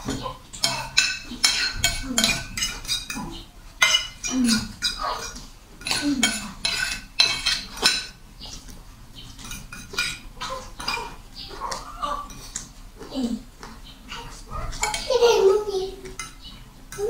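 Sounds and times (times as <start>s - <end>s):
cutlery scraping ceramic plates: 0.0s - 17.0s.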